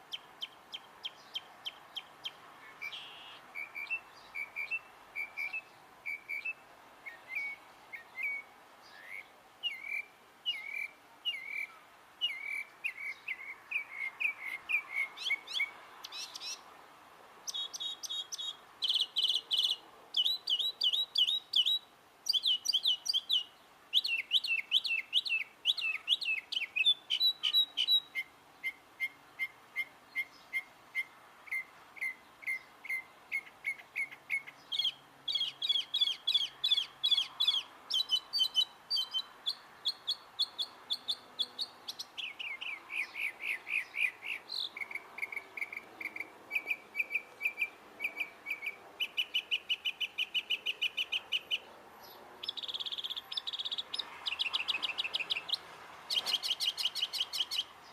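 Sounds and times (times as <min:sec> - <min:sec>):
bird singing varied calls: 0:00.0 - 0:16.7, 0:17.5 - 0:57.9.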